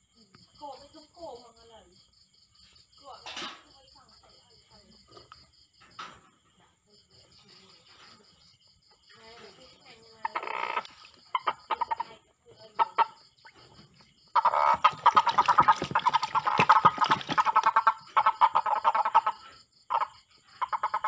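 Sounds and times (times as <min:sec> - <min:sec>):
frogs croaking: 0:00.0 - 0:21.0.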